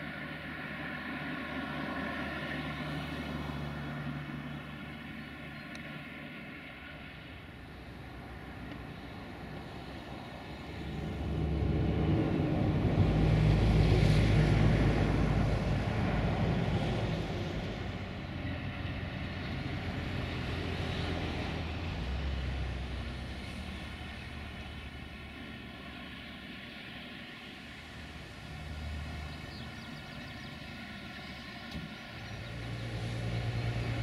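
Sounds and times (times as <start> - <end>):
diesel locomotive engine running: 0.0 - 34.0.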